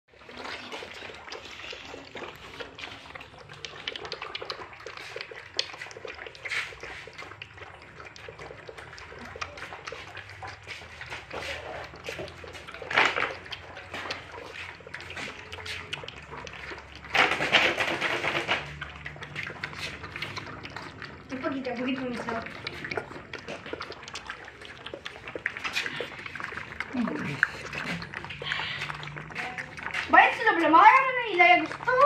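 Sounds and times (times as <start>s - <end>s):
puppies lapping and chewing: 0.1s - 32.0s.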